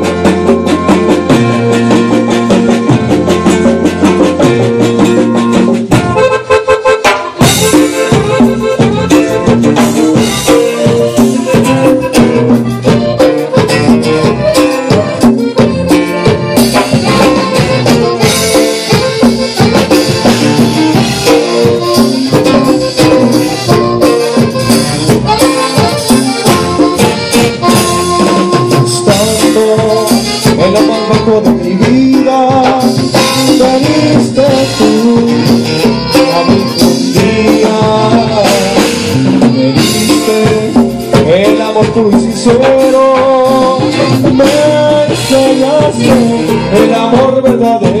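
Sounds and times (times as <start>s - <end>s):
accordion: 0.0s - 48.0s
acoustic guitar: 0.0s - 48.0s
bass guitar: 0.0s - 48.0s
drum kit: 0.0s - 48.0s.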